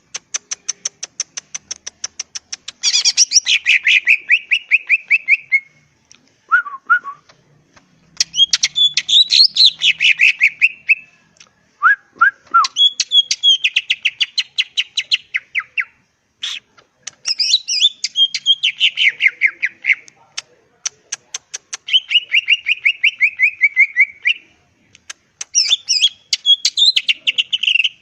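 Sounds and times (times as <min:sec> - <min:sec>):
bird chattering song: 0:00.0 - 0:05.7, 0:08.2 - 0:11.1, 0:12.6 - 0:28.0.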